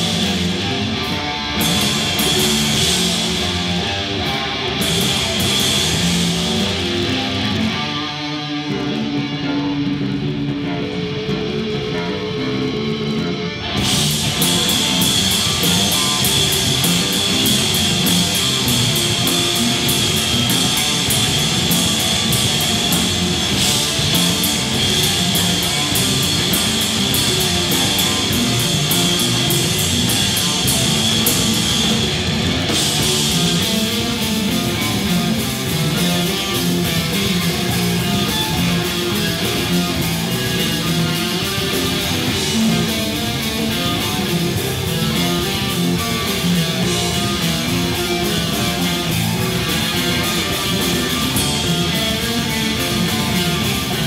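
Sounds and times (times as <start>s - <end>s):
heavy rock band playing: 0.0s - 54.0s.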